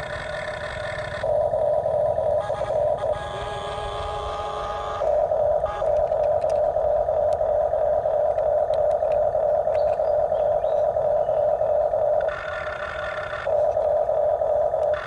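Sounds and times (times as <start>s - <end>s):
toy excavator electric motor whining: 0.0s - 15.0s.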